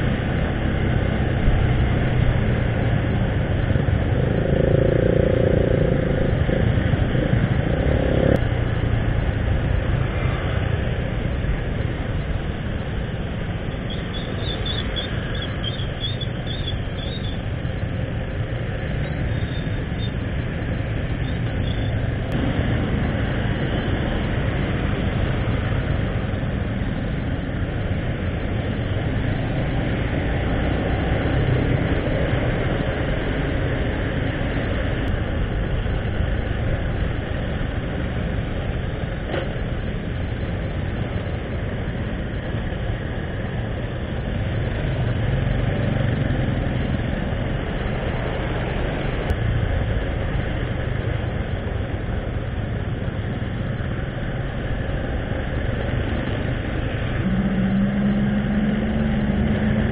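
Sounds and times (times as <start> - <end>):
engine and road noise: 0.0 - 59.9.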